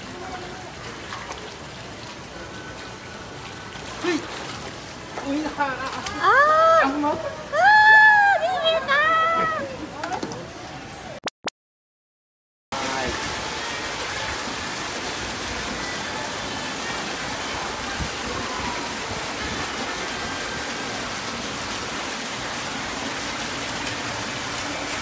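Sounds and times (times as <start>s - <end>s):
running water rushing: 0.0s - 11.2s, 12.8s - 25.0s.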